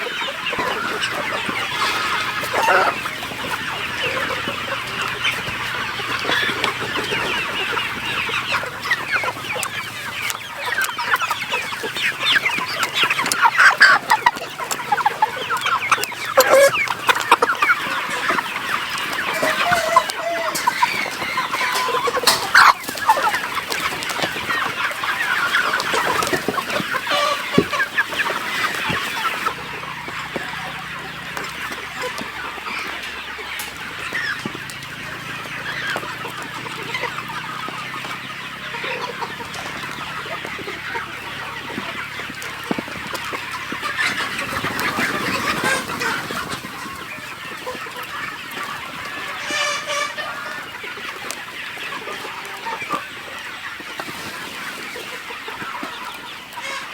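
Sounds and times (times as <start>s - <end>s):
chickens clucking: 0.0s - 56.9s
drawn-out chicken call: 0.0s - 56.9s.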